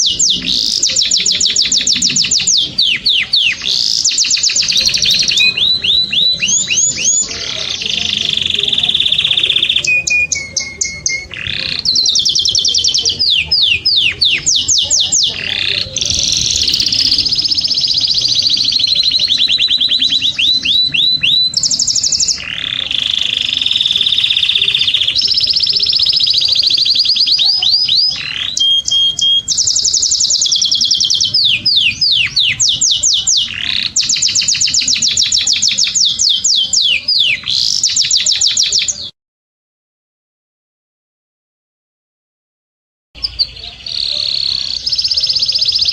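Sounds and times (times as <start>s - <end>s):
canary singing trills: 0.0s - 39.2s, 43.2s - 45.9s.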